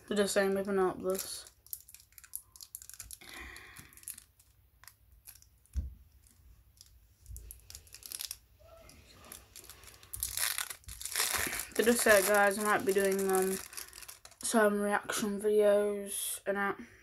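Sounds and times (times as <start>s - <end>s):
plastic wrapper crinkling: 0.1s - 14.6s.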